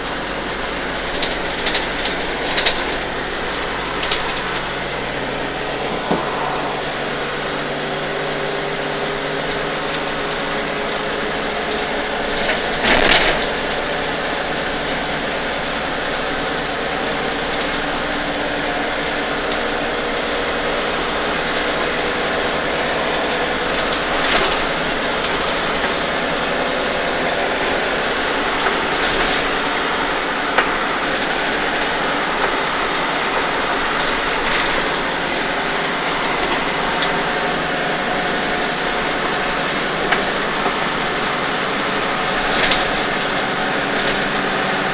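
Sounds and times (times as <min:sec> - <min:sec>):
engine and road noise in cabin: 0:00.0 - 0:44.9.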